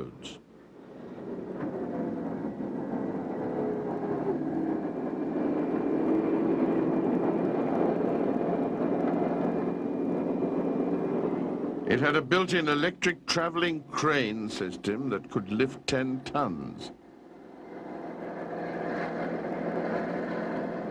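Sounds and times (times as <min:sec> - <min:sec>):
helicopter engines and rotors: 0:00.0 - 0:20.9.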